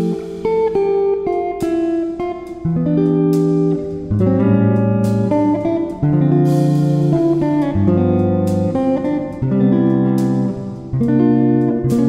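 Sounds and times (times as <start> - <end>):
plucked guitar with bass notes: 0.0 - 12.0.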